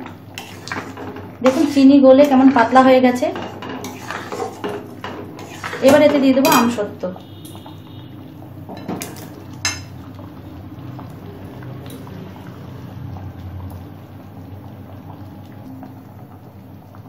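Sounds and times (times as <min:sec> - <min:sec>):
syrup simmering and bubbling: 0:00.0 - 0:06.4, 0:07.2 - 0:17.0.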